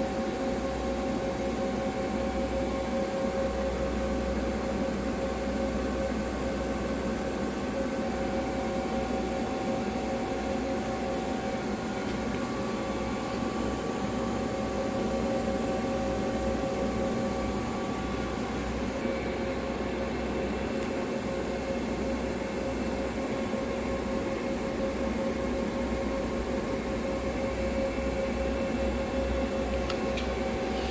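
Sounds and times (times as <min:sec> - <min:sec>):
high machine whine: 0:00.0 - 0:30.9.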